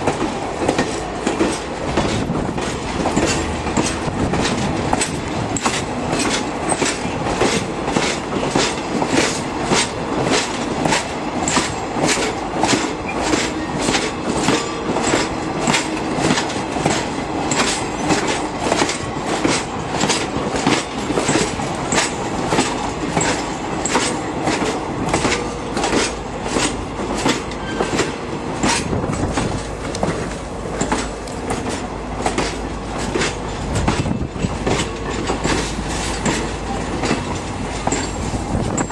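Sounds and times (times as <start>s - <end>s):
train rumble: 0.0s - 38.9s
train wheels clicking over rail joints: 0.0s - 38.9s.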